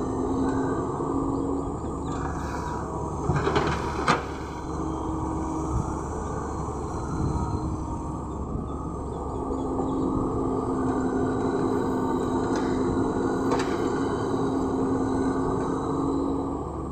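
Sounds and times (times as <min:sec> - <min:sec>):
excavator bucket digging dirt: 0:00.0 - 0:08.8, 0:09.6 - 0:15.9
excavator diesel engine running: 0:00.0 - 0:16.9.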